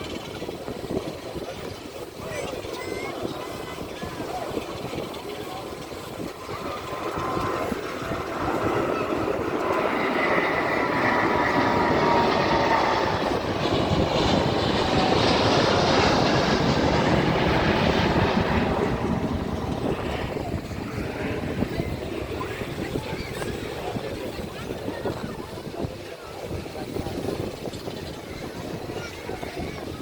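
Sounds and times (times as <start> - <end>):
jet airliner passing: 0.0 - 30.0.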